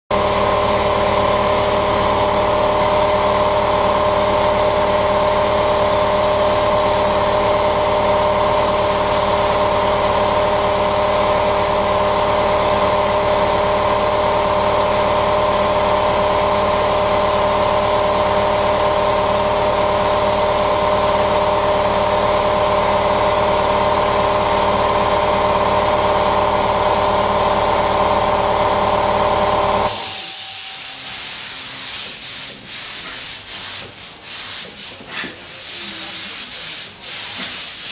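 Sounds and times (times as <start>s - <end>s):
spray painting motor hum: 0.2s - 37.9s.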